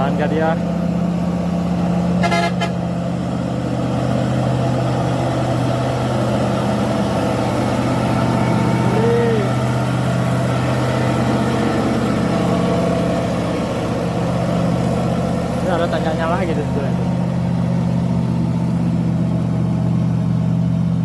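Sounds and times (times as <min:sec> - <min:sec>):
heavy truck diesel engine: 0:00.0 - 0:21.0.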